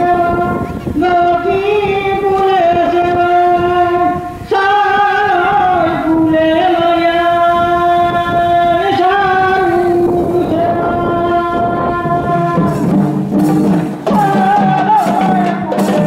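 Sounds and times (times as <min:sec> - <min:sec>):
women singing in unison: 0:00.0 - 0:13.2, 0:14.0 - 0:16.0.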